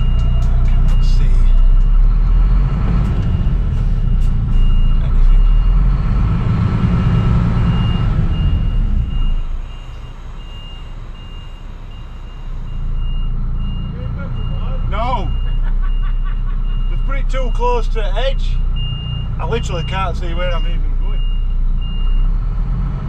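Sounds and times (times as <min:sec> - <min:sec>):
reversing alarm beeping: 0:00.0 - 0:02.0, 0:03.2 - 0:05.9, 0:07.0 - 0:17.6, 0:18.7 - 0:22.3
truck diesel engine running: 0:00.0 - 0:23.0.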